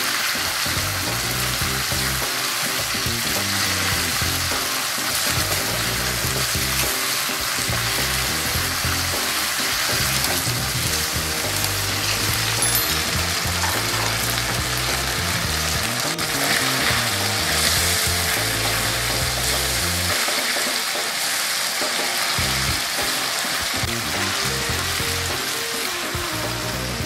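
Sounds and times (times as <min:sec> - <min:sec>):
background music: 0:00.0 - 0:27.0
meat sizzling in hot oil: 0:00.0 - 0:27.0.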